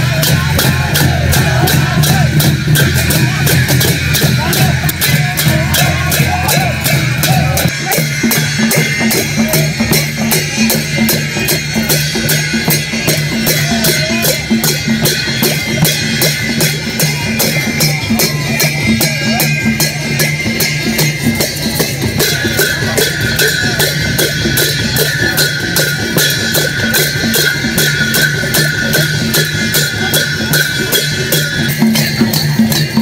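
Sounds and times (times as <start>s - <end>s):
dance music with percussion beat: 0.0s - 33.0s.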